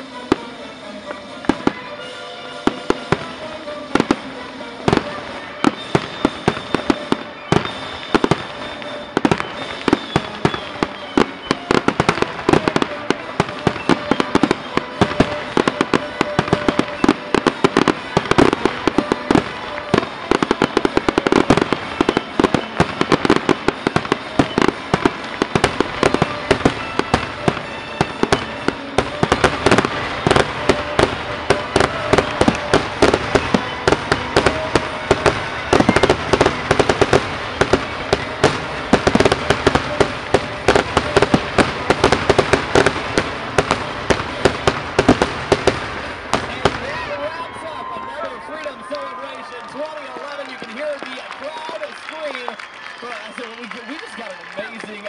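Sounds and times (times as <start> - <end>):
fireworks bursting in a barrage: 0.0 - 55.0.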